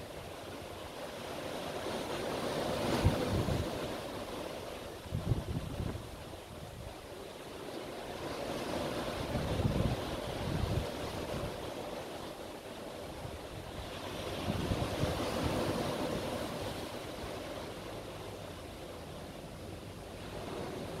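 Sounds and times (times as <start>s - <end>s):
sea surf washing ashore: 0.0s - 21.0s
wind rumble on microphone: 1.5s - 7.2s, 8.1s - 21.0s.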